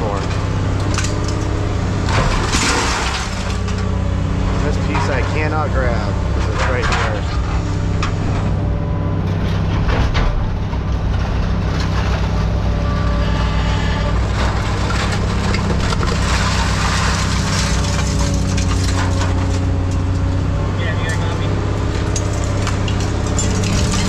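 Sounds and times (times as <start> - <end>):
heavy tracked machine running: 0.0 - 24.0
scrap metal crunching and clanking: 0.0 - 24.0.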